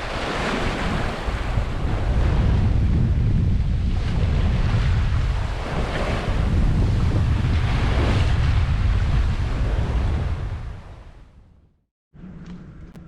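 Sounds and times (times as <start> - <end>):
waves washing around boat: 0.0 - 11.2
wind buffeting microphone: 0.0 - 11.6.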